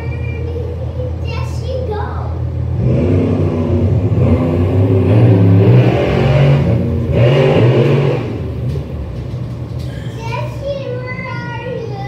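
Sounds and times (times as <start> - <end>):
monster truck engines revving: 0.0 - 12.0.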